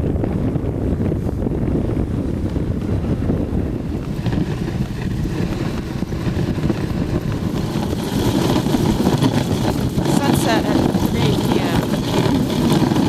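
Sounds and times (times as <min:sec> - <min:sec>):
sled rushing on snow: 0:00.0 - 0:13.0
wind rumbling on microphone: 0:00.0 - 0:13.0.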